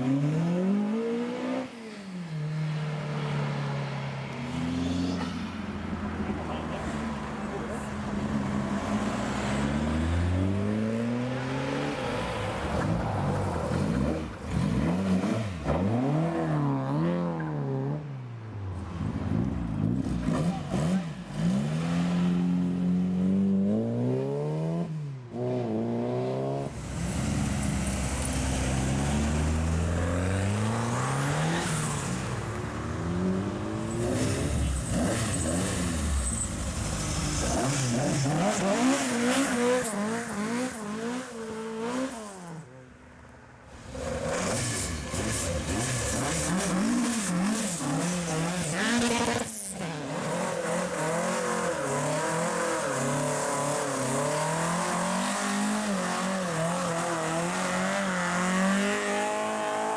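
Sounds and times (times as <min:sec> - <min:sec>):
car engines revving: 0:00.0 - 0:42.8, 0:43.7 - 0:59.9.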